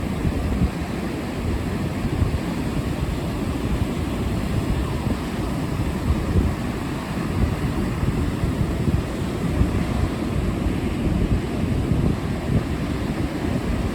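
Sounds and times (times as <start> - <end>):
surf washing on beach: 0.0 - 13.9
wind buffeting microphone: 0.0 - 13.9.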